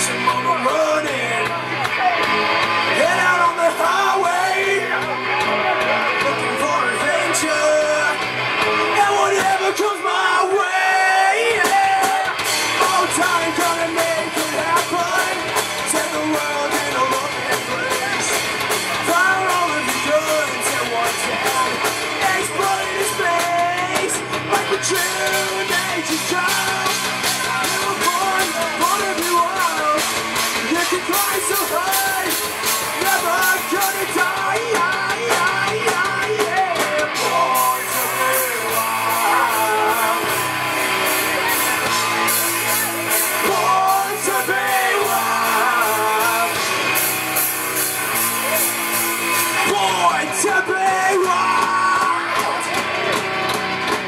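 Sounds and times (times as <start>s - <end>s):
man singing and shouting: 0.0s - 53.2s
bass guitar: 0.0s - 54.0s
distorted electric guitar: 0.0s - 54.0s
drum kit: 0.0s - 54.0s.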